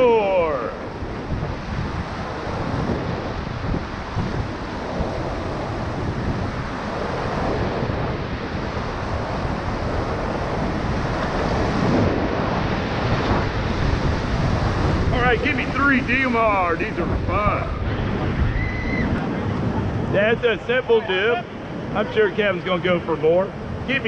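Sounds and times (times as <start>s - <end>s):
whitewater rushing: 0.0s - 1.1s, 1.7s - 24.0s
wind on microphone: 0.0s - 24.0s.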